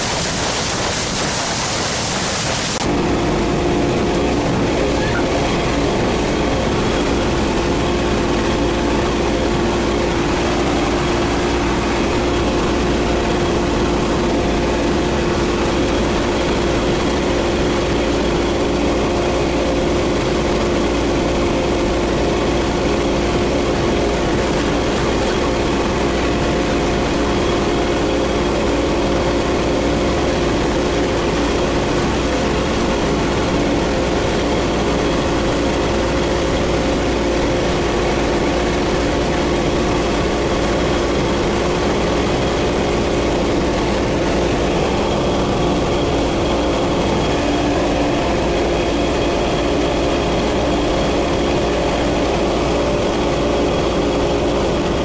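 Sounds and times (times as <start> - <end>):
churning wake rushing: 0.0 - 55.0
outboard motors running: 0.0 - 55.0
wind over water: 0.0 - 55.0.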